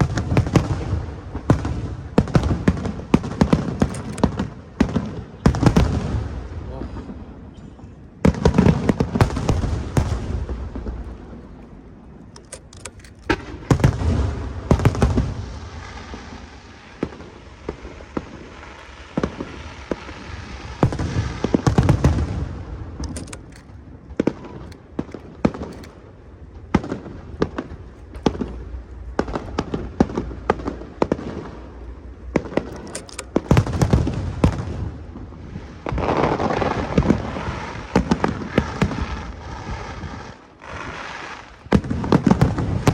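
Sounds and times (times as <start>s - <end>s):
firework cracks and crackling: 0.0s - 7.4s, 8.2s - 12.3s, 13.3s - 42.9s
firework shells booming: 0.0s - 42.9s.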